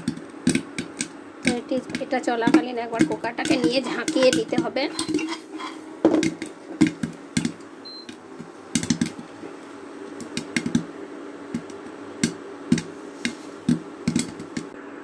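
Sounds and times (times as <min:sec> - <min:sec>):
popcorn popping in a pot: 0:00.0 - 0:14.8.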